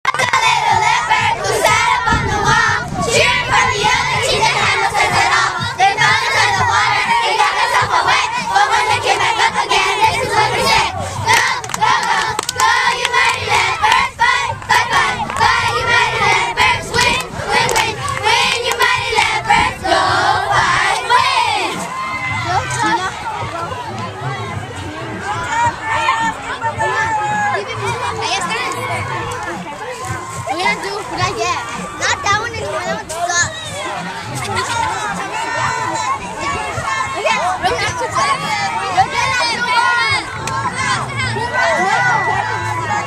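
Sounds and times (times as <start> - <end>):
girls shouting and cheering: 0.1 - 43.0.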